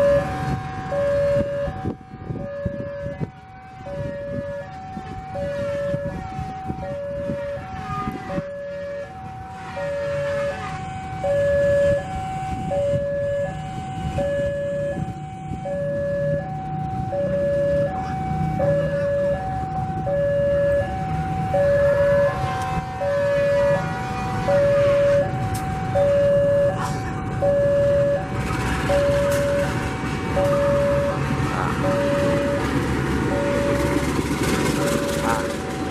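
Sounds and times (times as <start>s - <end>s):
locomotive engine rumble: 0.0s - 35.9s
railway crossing two-tone alarm: 0.0s - 35.9s.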